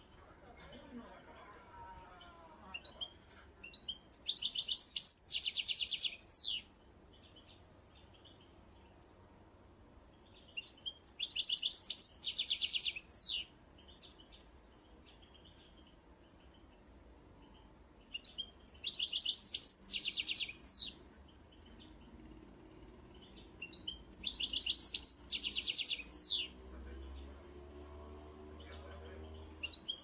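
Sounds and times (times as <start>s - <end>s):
faint bird chirps: 2.0s - 9.0s, 10.1s - 27.4s
songbird singing trill phrases: 2.0s - 30.0s.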